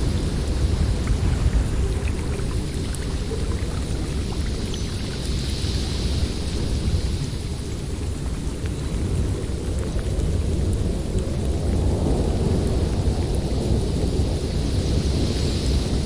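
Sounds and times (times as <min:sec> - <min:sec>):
snowstorm wind roaring: 0:00.0 - 0:16.0.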